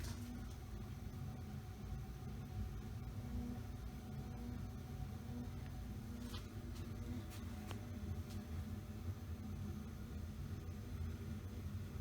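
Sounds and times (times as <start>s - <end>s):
ceiling fan humming: 0.0s - 12.0s.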